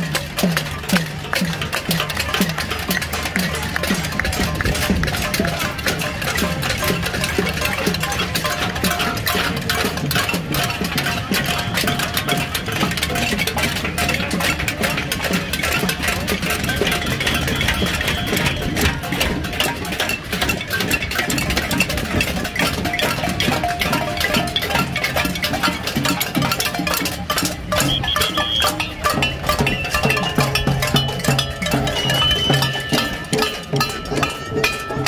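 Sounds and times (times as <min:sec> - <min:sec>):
pots and pans banging: 0:00.0 - 0:35.0.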